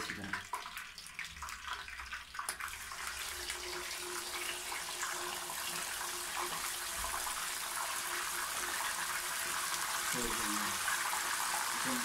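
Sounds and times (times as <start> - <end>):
chicken sizzling in hot oil: 1.1 - 12.0.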